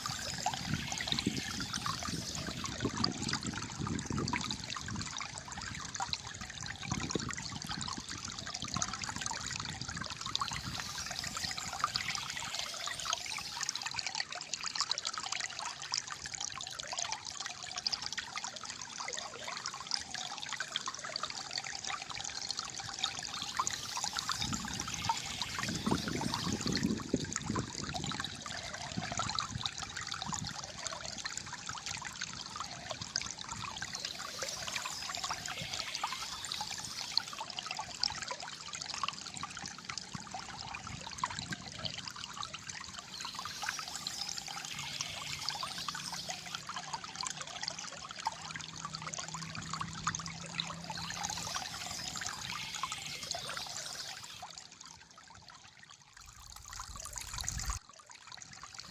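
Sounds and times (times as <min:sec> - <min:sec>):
water trickling and gurgling: 0:00.0 - 0:58.9.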